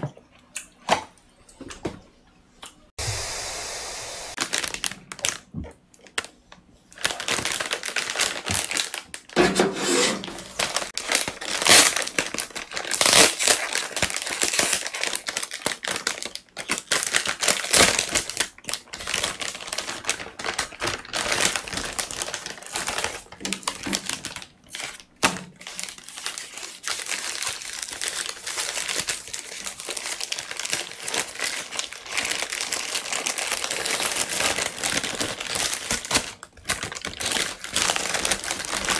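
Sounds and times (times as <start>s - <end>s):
paper bag crinkling: 4.3s - 6.3s, 6.9s - 38.9s.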